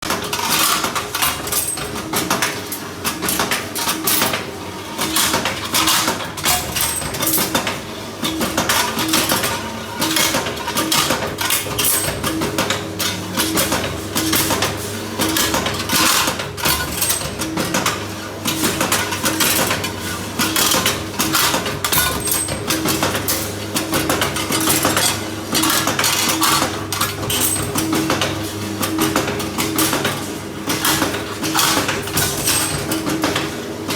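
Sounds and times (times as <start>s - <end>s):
steady motor hum: 0.0s - 33.9s.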